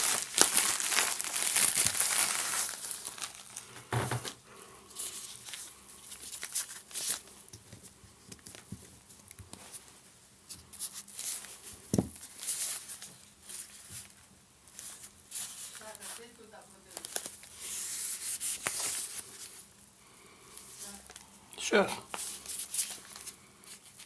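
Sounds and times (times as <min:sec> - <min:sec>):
packaging crinkling and rustling: 0:00.0 - 0:04.4, 0:05.0 - 0:10.0, 0:10.7 - 0:19.8, 0:22.0 - 0:24.0.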